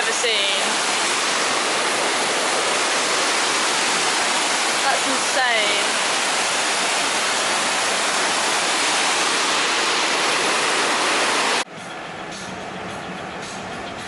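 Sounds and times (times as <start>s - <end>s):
waterfall crashing: 0.0s - 11.6s.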